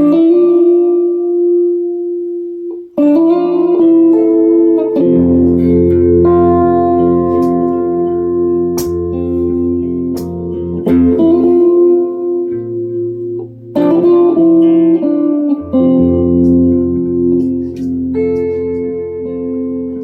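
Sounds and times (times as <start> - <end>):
guitar chords ringing: 0.0 - 20.0.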